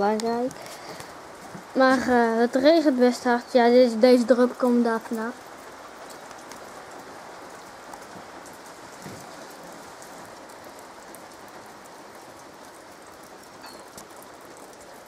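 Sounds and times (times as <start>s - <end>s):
heavy rain falling: 0.0s - 15.0s
raindrops ticking close by: 0.0s - 15.0s.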